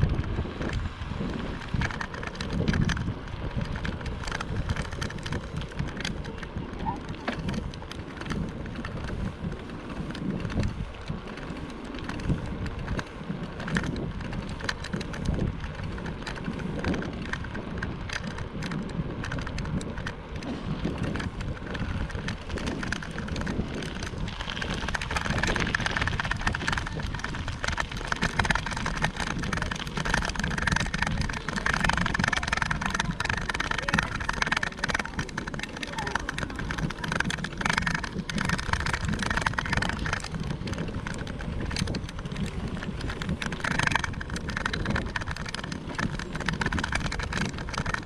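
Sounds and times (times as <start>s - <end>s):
bicycle rattles and clicks: 0.0s - 48.0s
wind and tyres rumbling: 0.0s - 48.0s.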